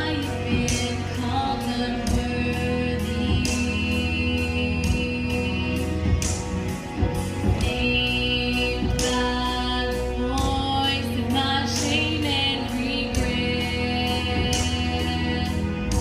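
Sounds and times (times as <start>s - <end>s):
woman singing: 0.0s - 16.0s.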